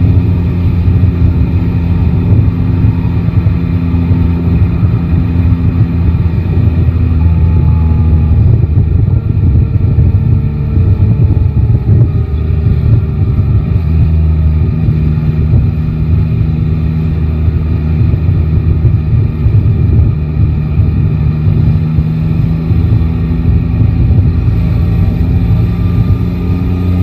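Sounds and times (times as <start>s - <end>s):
motorbike engine running: 0.0s - 27.0s
wind rumble on microphone: 0.0s - 27.0s.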